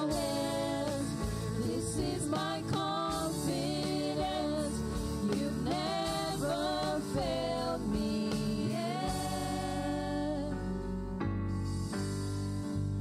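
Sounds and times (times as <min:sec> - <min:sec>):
person singing into microphone: 0:00.0 - 0:10.6
keyboard and band accompaniment: 0:00.0 - 0:13.0.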